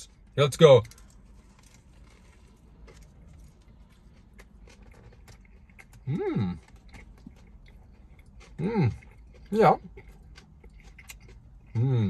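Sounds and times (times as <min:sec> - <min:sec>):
chewing food with crunches: 0:00.0 - 0:12.0.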